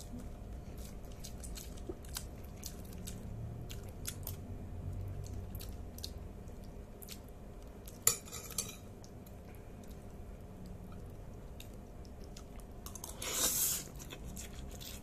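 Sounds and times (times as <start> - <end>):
person chewing noodles: 0.0 - 8.0, 9.0 - 15.0.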